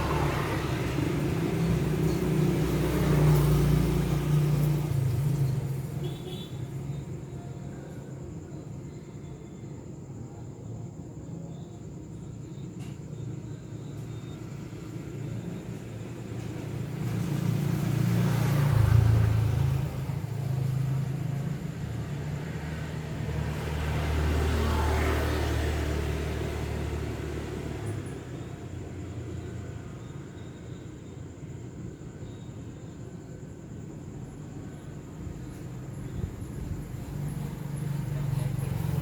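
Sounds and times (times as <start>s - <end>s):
vehicles passing by: 0.0s - 9.0s, 12.8s - 39.0s.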